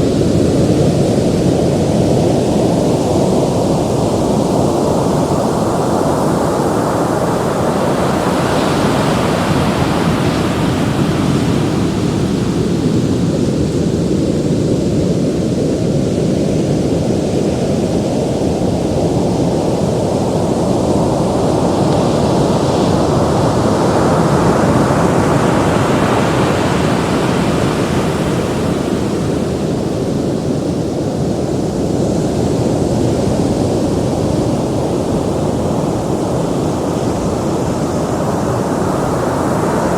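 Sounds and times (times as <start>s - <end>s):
ocean surf waves: 0.0s - 39.9s.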